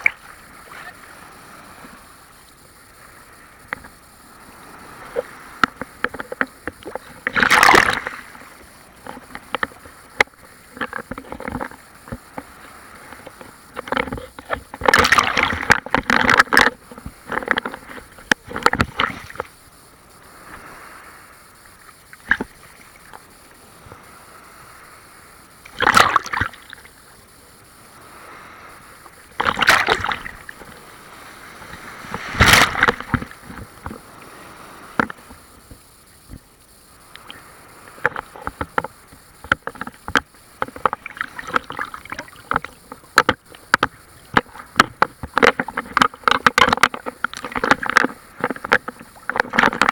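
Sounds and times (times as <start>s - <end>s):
crackle of small splashes: 0.0s - 24.0s, 25.6s - 27.7s, 28.9s - 34.3s, 34.9s - 49.9s
big waves splashing: 0.0s - 49.9s.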